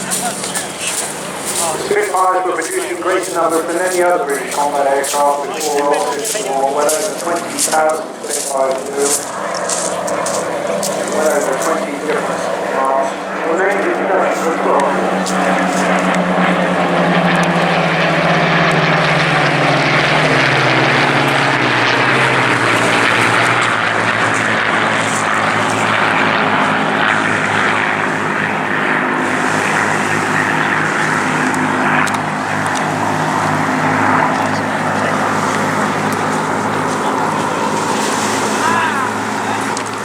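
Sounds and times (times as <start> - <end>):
propeller plane engine passing: 0.0 - 40.0.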